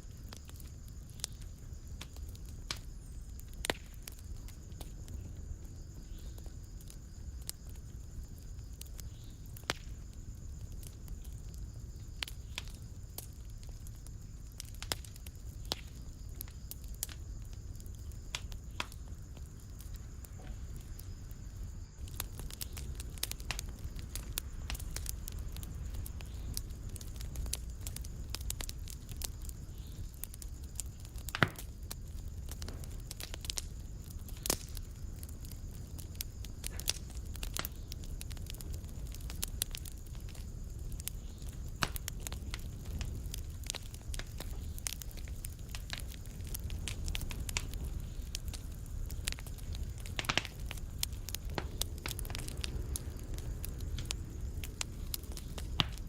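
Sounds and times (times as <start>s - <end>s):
fire crackling in fireplace: 0.0s - 56.0s
sharp pops and snaps of fire: 0.0s - 56.0s.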